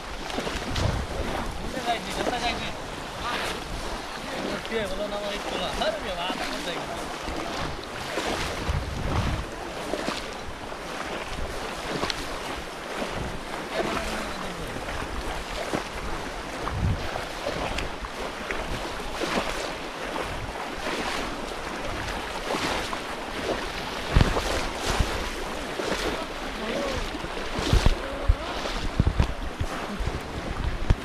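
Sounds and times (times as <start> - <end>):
water splashing from wading: 0.0 - 31.0
wind buffeting microphone: 0.0 - 31.0.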